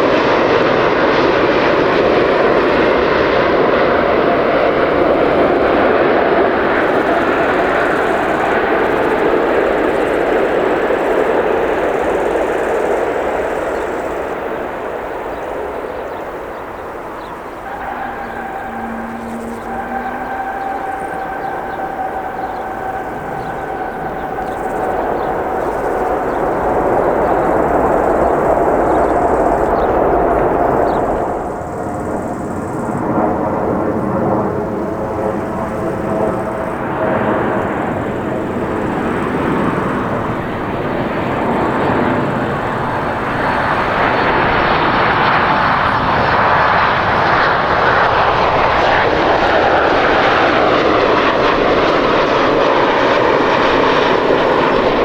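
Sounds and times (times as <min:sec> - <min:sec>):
jet airliner approaching to land: 0:00.0 - 0:55.0
jet engine whine: 0:00.0 - 0:55.0.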